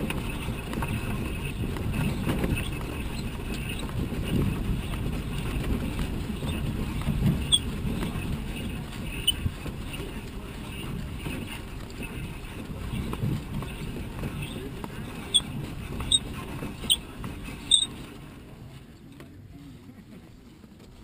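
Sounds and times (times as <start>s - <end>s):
low rumble and thuds on grass: 0.0s - 17.5s
wind on microphone: 0.0s - 17.8s.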